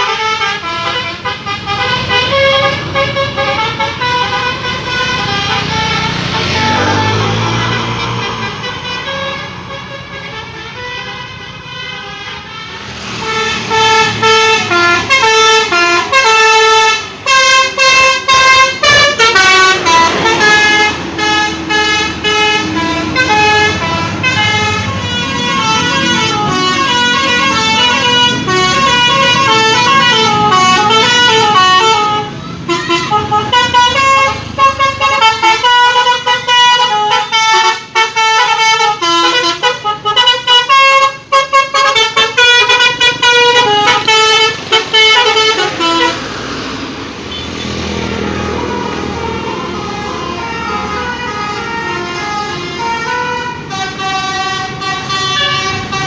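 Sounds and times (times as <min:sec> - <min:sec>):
bus engine running: 0:00.0 - 0:56.0
bus horns playing melodic tunes: 0:00.0 - 0:56.0.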